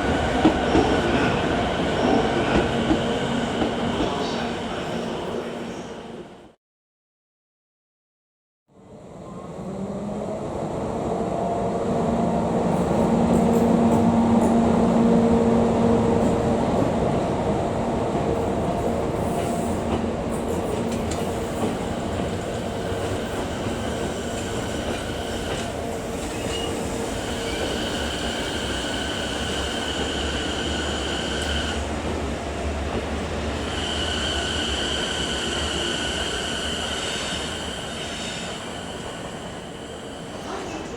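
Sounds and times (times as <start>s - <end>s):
locomotive wheels rumbling on rail: 0.0s - 5.5s, 10.0s - 40.9s.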